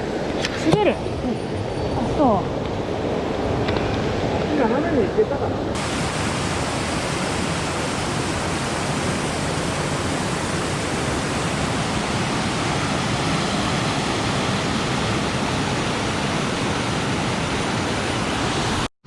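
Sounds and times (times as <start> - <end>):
mountain stream rushing: 0.0 - 18.9.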